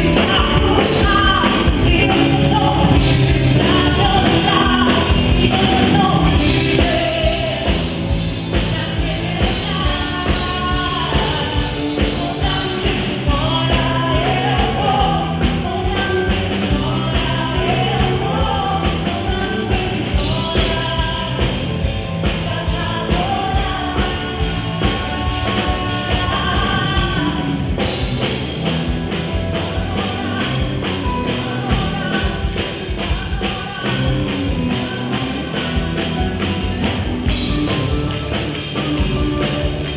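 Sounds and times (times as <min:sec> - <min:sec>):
band playing gospel rock: 0:00.0 - 0:39.9
drum kit beat: 0:00.0 - 0:39.9
lead singer singing: 0:00.0 - 0:39.9.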